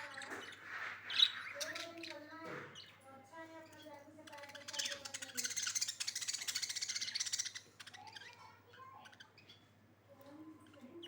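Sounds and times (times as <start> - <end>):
budgerigars chattering and chirping: 0.0 - 3.0, 3.6 - 9.7.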